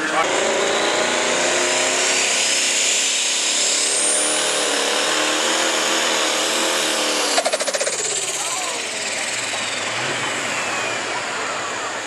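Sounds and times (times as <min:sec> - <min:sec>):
diesel engine running under load: 0:00.0 - 0:12.0
high turbo whine: 0:00.0 - 0:12.0.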